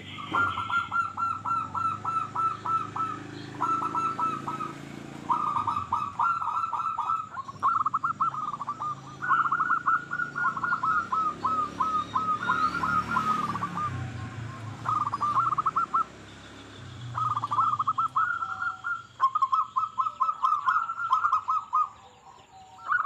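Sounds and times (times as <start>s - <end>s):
dove cooing: 0.0s - 16.2s, 16.8s - 23.0s.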